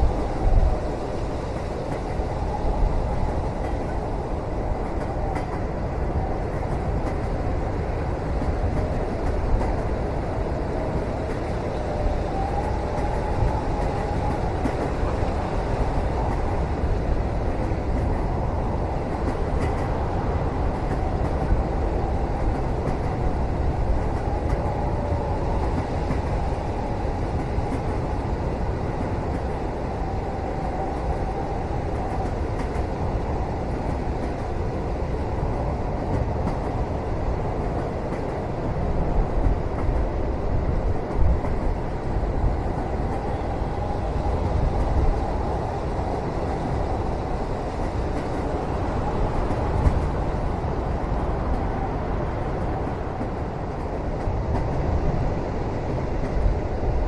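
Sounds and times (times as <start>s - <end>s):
train rumble inside cabin: 0.0s - 57.0s.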